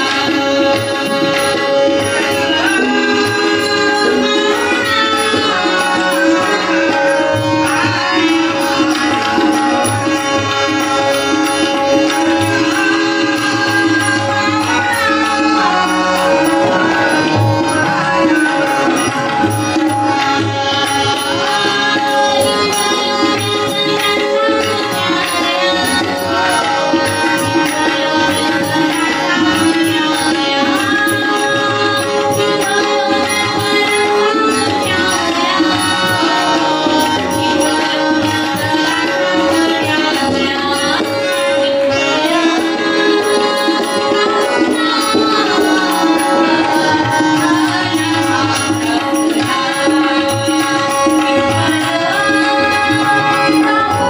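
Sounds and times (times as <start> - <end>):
tabla rhythm: 0.0 - 54.0.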